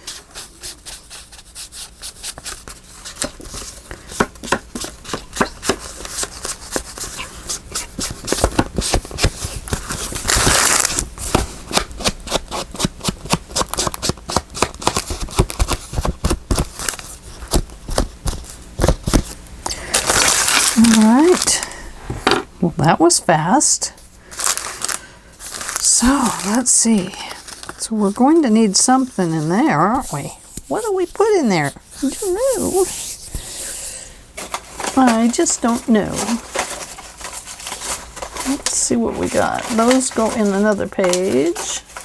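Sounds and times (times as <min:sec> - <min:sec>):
paper rustling: 0:00.0 - 0:22.4, 0:24.1 - 0:42.0.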